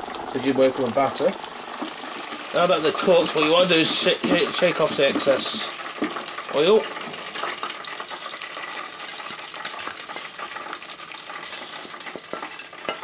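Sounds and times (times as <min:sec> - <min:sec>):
hot oil sizzling in fryer: 0:00.0 - 0:13.0.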